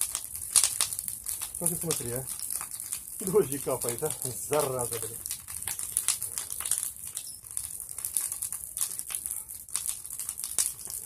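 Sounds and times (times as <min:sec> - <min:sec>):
bonfire crackling: 0:00.0 - 0:11.0.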